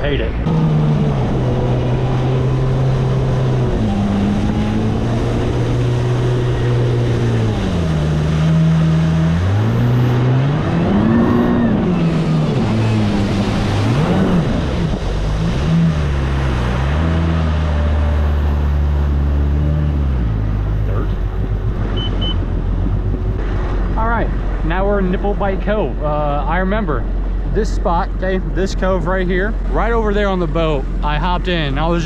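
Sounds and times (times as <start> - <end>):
watercraft engine running: 0.0 - 32.0.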